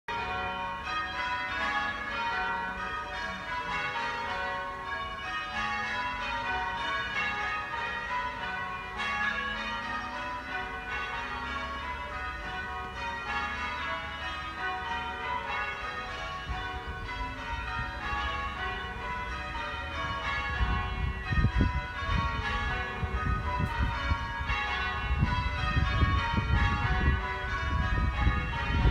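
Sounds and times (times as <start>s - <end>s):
church bells ringing: 0.1s - 28.9s.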